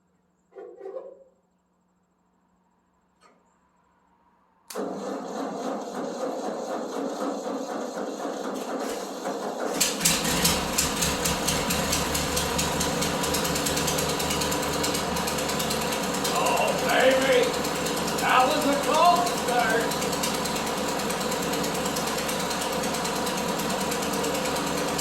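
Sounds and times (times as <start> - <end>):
starter motor cranking: 4.7 - 25.0
tractor engine running: 4.8 - 25.0.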